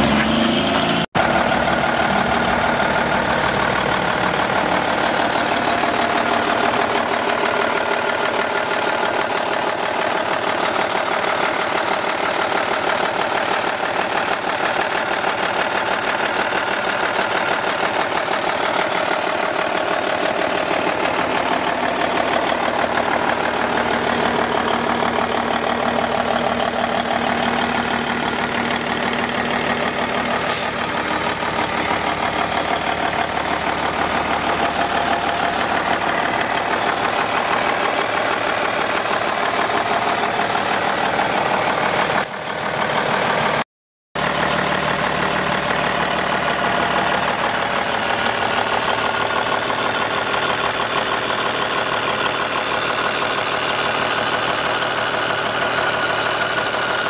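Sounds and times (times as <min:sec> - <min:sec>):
diesel truck engine idling: 0:00.0 - 0:43.6, 0:44.2 - 0:57.0.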